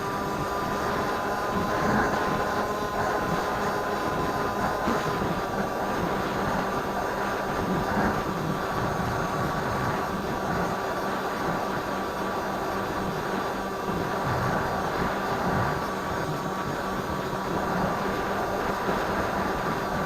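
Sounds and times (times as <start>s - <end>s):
rc plane motor and propeller drone: 0.0s - 20.0s.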